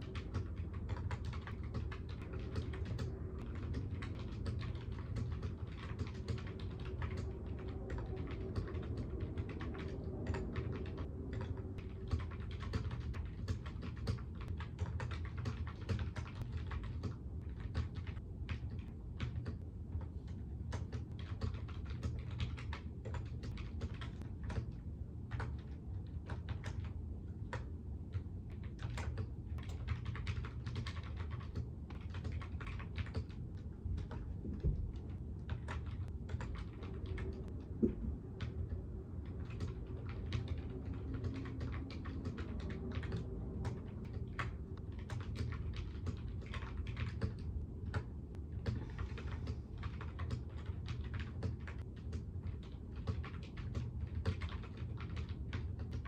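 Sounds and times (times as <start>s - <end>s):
constant low hum: 0.0s - 56.0s
typing on computer keyboard: 0.0s - 56.0s.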